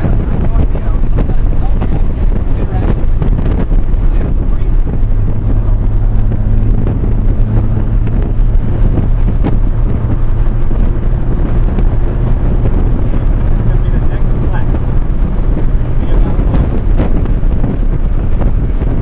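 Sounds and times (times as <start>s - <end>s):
car engine and road noise: 0.0s - 19.0s
low drone: 0.0s - 19.0s
wind buffeting microphone: 0.0s - 19.0s.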